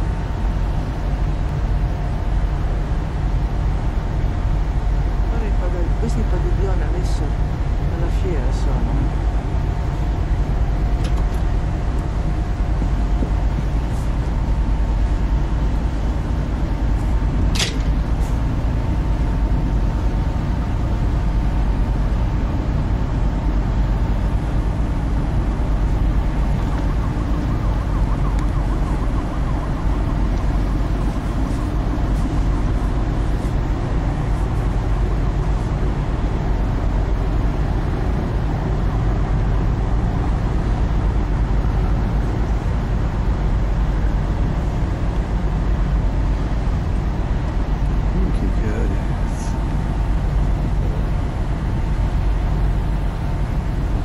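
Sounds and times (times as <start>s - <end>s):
low rumble of harbour and city: 0.0s - 54.0s.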